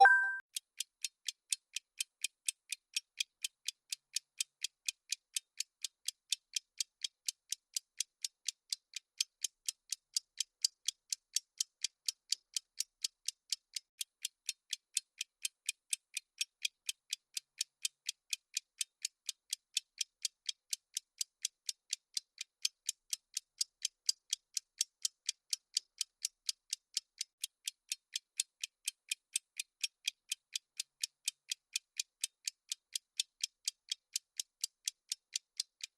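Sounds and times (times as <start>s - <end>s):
high clock ticks: 0.0s - 35.9s.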